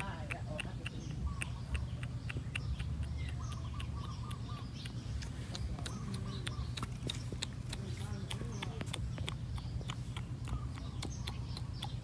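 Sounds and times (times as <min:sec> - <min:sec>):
quavering bird chirps: 0:00.0 - 0:12.0
sharp clicks: 0:00.0 - 0:12.0.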